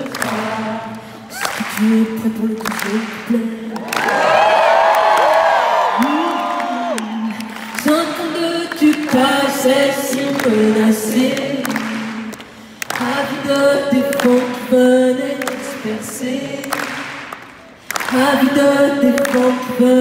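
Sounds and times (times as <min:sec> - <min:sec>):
crowd singing together: 0:00.0 - 0:04.0, 0:08.0 - 0:20.0.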